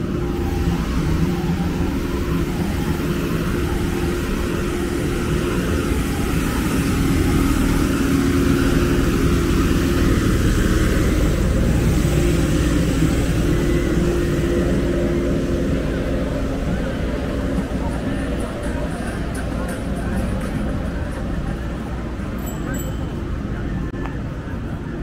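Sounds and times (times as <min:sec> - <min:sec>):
passing cars rumbling: 0:00.0 - 0:22.4
vehicle engine humming: 0:00.0 - 0:25.0.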